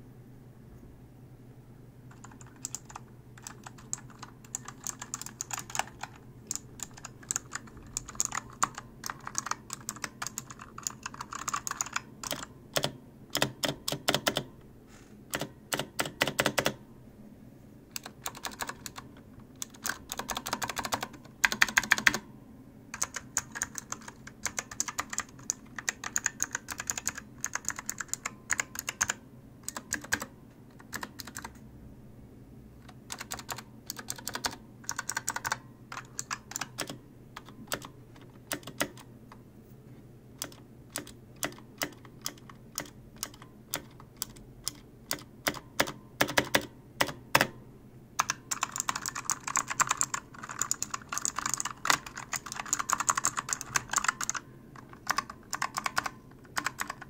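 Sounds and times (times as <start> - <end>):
clicky keyboard typing: 2.1 - 14.5, 15.3 - 16.8, 17.9 - 22.2, 22.9 - 31.6, 32.8 - 39.4, 40.4 - 47.6, 48.2 - 57.0.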